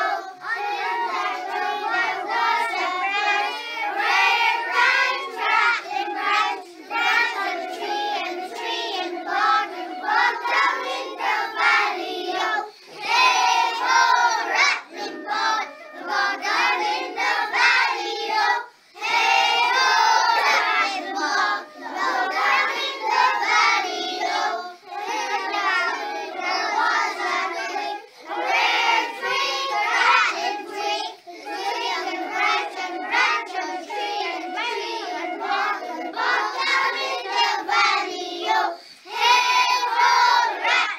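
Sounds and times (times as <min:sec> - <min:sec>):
children singing together: 0:00.0 - 0:40.9.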